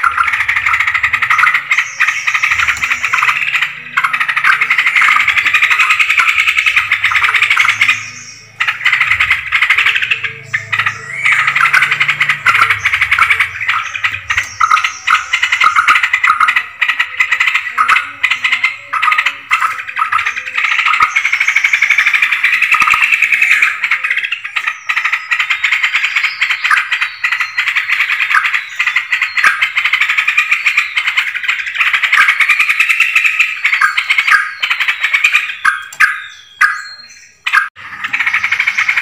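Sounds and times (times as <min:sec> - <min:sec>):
bulbuls chattering chorus: 0:00.0 - 0:39.0.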